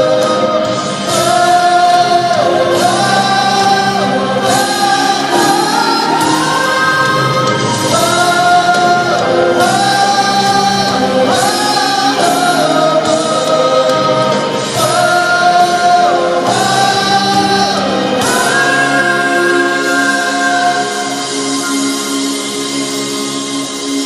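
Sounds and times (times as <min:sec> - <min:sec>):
group singing in harmony: 0:00.0 - 0:24.0.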